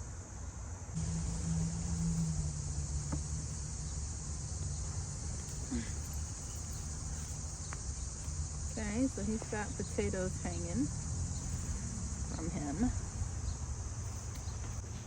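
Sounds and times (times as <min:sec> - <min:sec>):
crickets and insects chirping: 0:00.0 - 0:15.0
low steady hum: 0:00.0 - 0:15.0.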